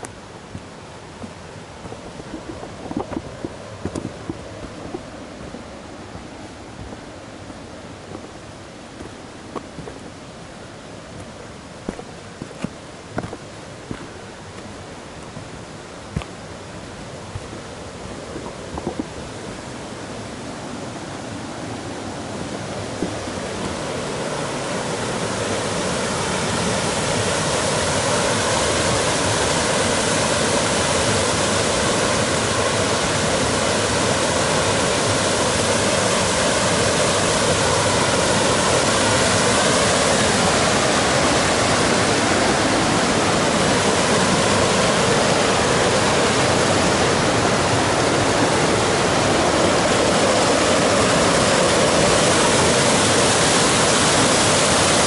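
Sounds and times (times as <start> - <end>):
river water rushing down cascades: 0.0 - 55.0.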